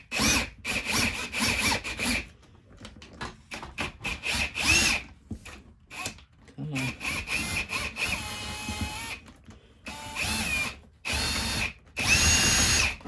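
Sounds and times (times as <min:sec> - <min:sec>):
power drill motor whining: 0:00.1 - 0:02.3, 0:03.8 - 0:06.2, 0:06.8 - 0:13.0.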